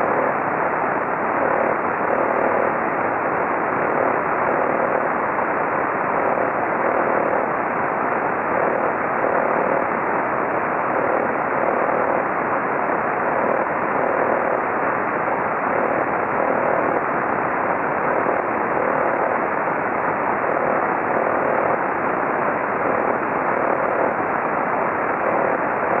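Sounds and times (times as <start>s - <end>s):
faint pulsing tone: 0.0s - 26.0s
radio static hiss: 0.0s - 26.0s.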